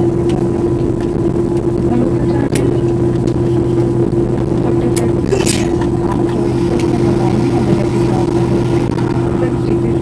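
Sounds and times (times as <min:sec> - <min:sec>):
airliner cabin hum: 0:00.0 - 0:10.0.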